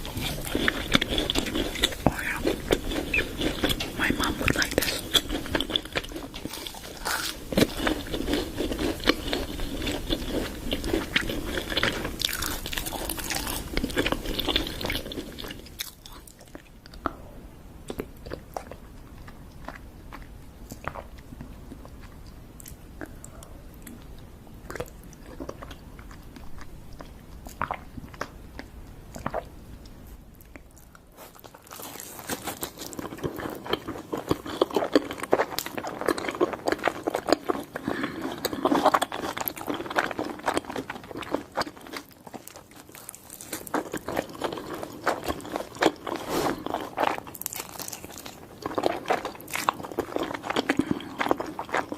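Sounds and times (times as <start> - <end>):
crunchy food being chewed: 0.0 - 51.9.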